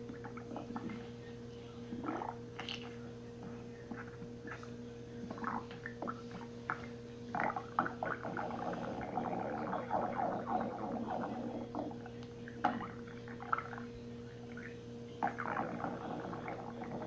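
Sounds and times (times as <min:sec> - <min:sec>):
steady low hum: 0:00.0 - 0:17.0
stomach gurgling: 0:00.0 - 0:17.0.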